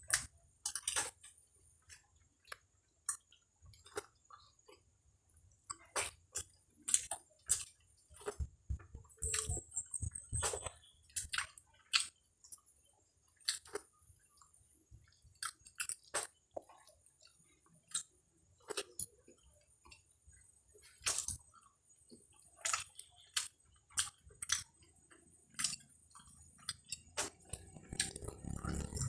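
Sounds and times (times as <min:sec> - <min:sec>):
chewing crunchy food: 0:00.0 - 0:04.9, 0:05.6 - 0:29.0.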